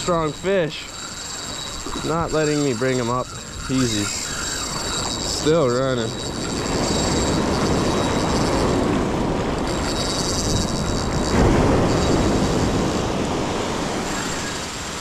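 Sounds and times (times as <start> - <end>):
ocean surf against rocks: 0.0 - 15.0
wind buffeting microphone: 0.0 - 15.0.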